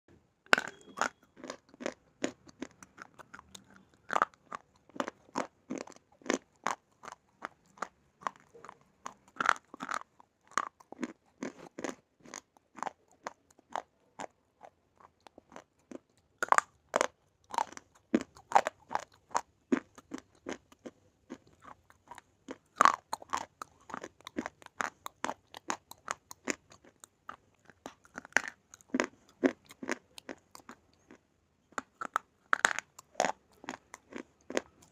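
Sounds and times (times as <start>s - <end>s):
person biting and chewing: 0.5s - 31.2s, 31.8s - 34.9s.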